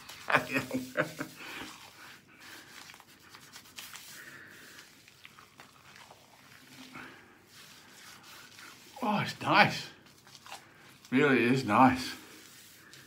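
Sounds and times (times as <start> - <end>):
hands rubbing wet lather: 0.0 - 13.0.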